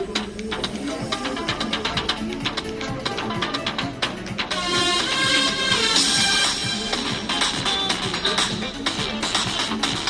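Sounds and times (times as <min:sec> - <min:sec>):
phone ringtone music: 0:00.0 - 0:10.0.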